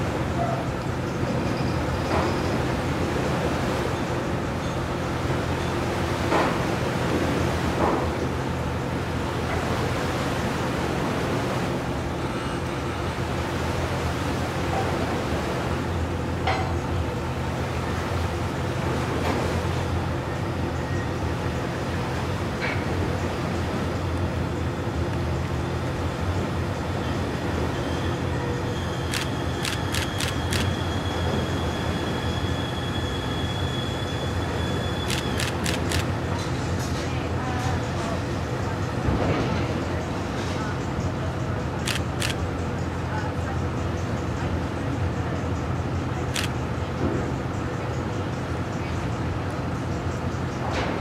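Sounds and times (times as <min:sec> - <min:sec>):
ferry engines droning: 0:00.0 - 0:51.0.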